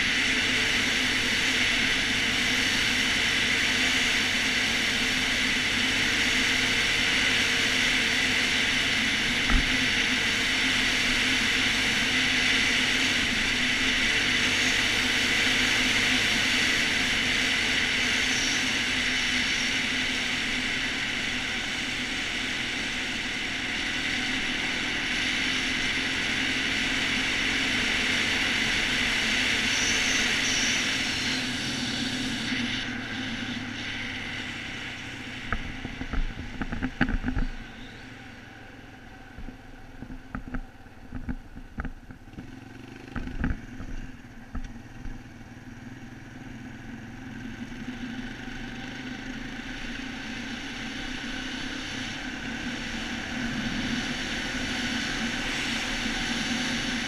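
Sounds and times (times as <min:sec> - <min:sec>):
quad bike engine droning: 0:00.0 - 0:57.0.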